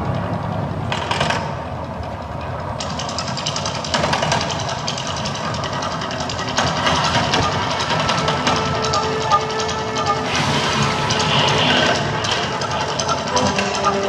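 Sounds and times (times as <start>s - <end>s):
loud steady rumbling: 0.0s - 14.0s
rapid clattering: 0.2s - 14.0s.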